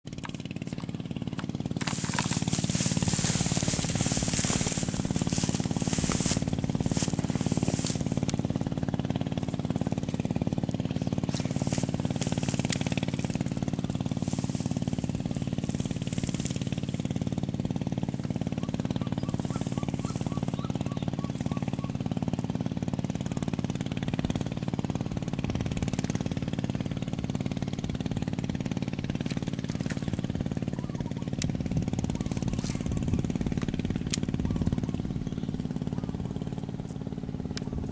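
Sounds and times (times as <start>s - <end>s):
small engine running: 0.1s - 37.9s.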